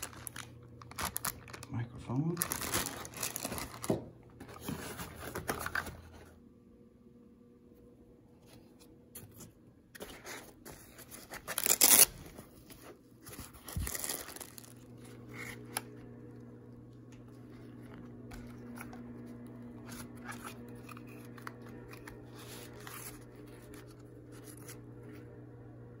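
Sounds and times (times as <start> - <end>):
cardboard packaging rustling: 0.0 - 6.4, 9.2 - 15.9, 17.3 - 25.2.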